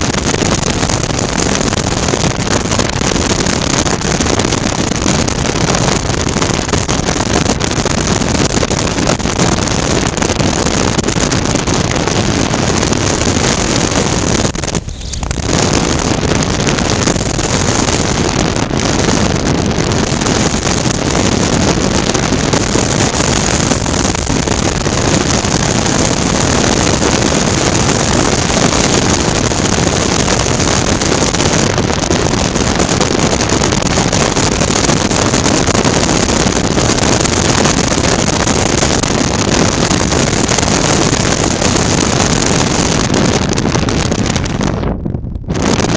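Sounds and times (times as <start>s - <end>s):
wind rush on microphone: 0.0s - 45.9s.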